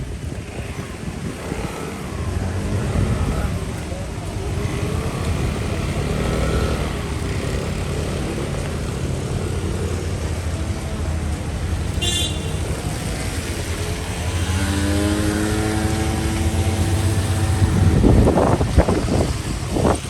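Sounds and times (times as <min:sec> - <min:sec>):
vehicle engines passing: 0:00.0 - 0:20.0.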